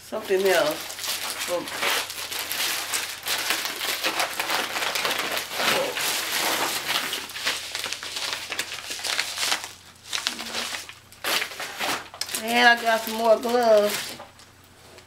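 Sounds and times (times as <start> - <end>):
packaging crinkling: 0.1 - 15.0.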